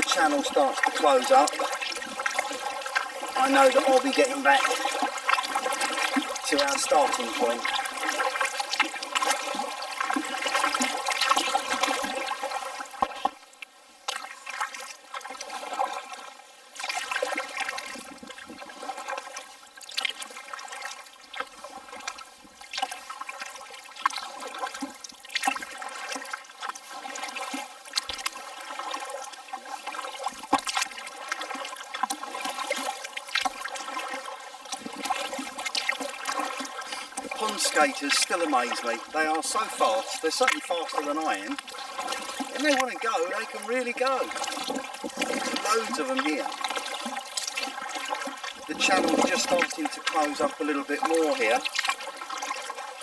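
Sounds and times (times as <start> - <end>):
kayak paddle splashing water: 0.0 - 53.0.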